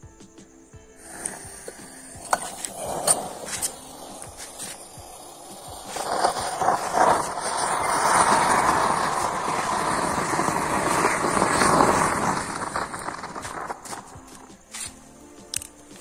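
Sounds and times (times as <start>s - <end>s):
firework spark fountain hissing: 1.0s - 16.0s.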